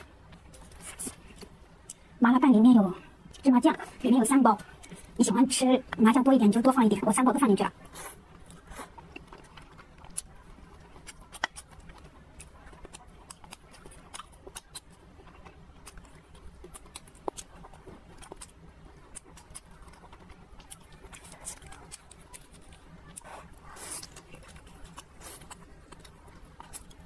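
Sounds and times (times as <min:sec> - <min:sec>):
soft chewing: 0:00.0 - 0:27.0.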